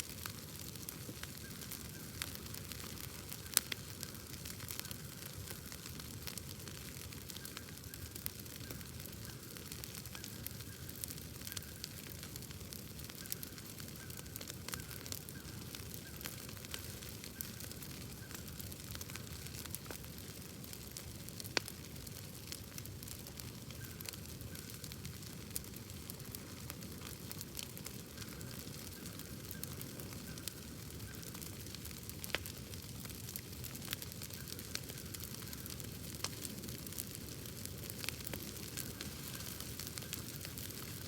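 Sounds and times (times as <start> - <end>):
wood bonfire crackling: 0.0 - 41.0.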